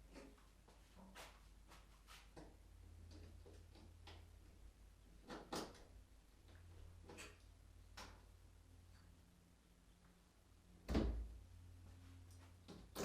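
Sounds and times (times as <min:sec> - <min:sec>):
low steady hum: 0:02.5 - 0:13.0.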